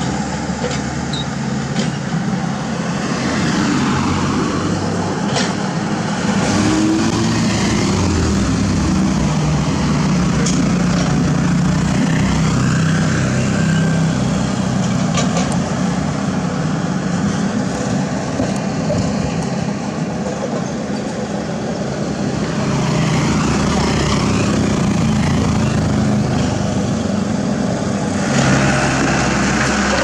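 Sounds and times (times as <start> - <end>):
excavator diesel engine: 0.0 - 30.0
passing road traffic: 0.0 - 30.0.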